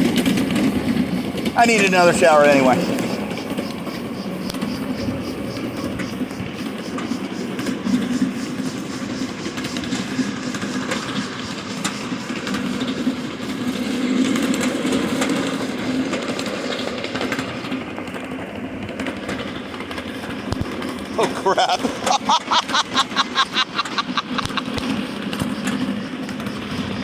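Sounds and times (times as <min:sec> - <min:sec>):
miniature steam train rumbling: 0:00.0 - 0:27.0
wheels clicking over rail joints: 0:00.0 - 0:27.0.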